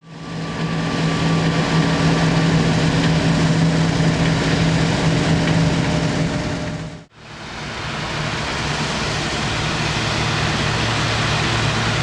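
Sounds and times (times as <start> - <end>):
combine harvester engine hum: 0.0 - 12.0
broad rushing noise: 0.1 - 12.0.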